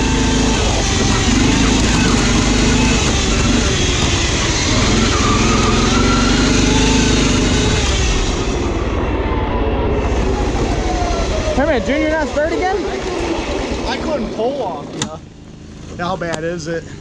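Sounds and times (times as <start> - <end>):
riding lawn mower engine: 0.0 - 17.0.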